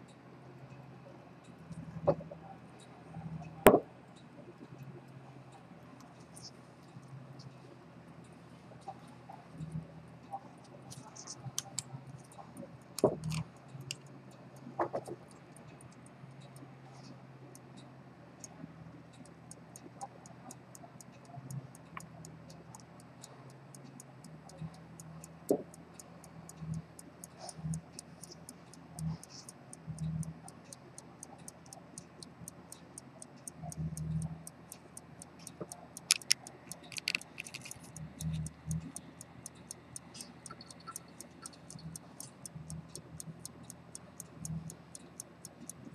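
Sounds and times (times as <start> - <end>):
pocket watch ticking: 0.0 - 45.9.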